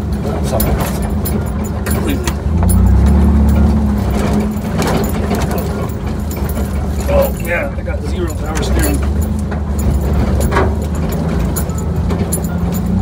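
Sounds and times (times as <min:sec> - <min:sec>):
loose parts clicking and knocking: 0:00.0 - 0:13.0
truck engine running: 0:00.0 - 0:13.0.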